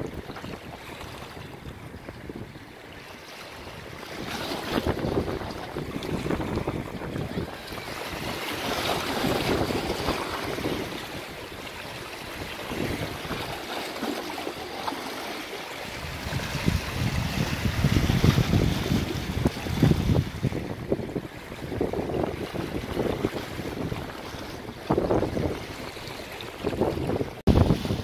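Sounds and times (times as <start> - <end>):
wind buffeting microphone: 0.0 - 14.7, 15.8 - 28.0
sea waves: 0.0 - 28.0.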